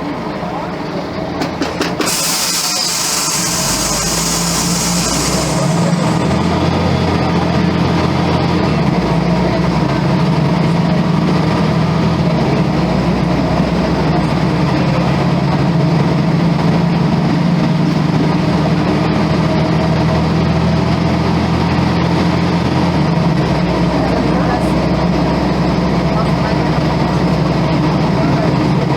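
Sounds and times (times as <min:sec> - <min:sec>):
bus diesel engine running: 0:00.0 - 0:28.9.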